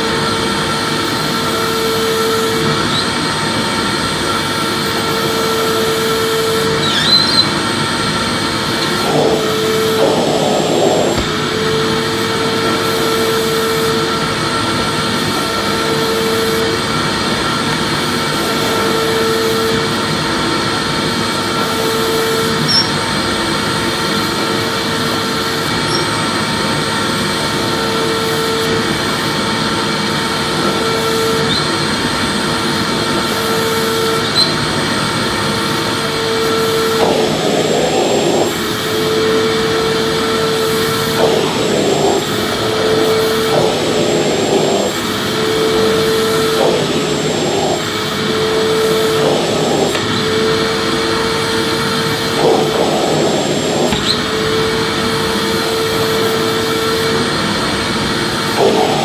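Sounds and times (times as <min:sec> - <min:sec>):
vacuum cleaner motor running: 0:00.0 - 0:59.0.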